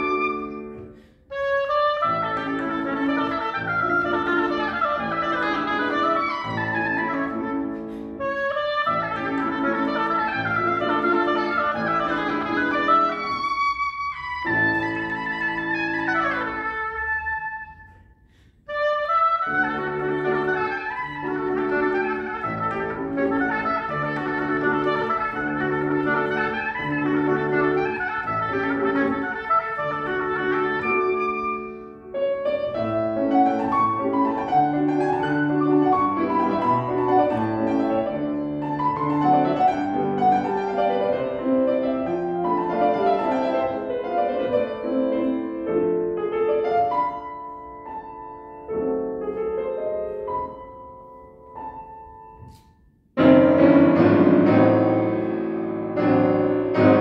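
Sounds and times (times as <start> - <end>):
clarinet melody: 0.0 - 57.0
piano accompaniment: 0.0 - 57.0.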